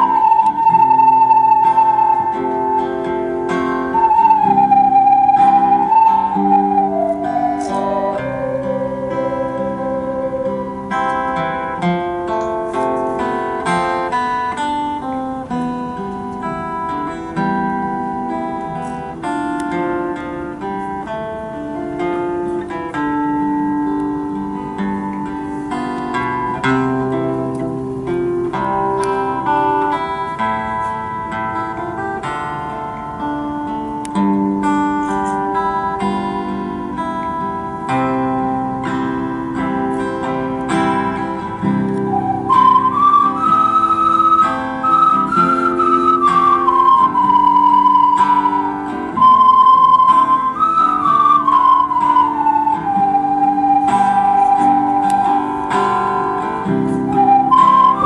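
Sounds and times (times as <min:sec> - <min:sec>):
acoustic guitar music: 0:00.0 - 0:58.0.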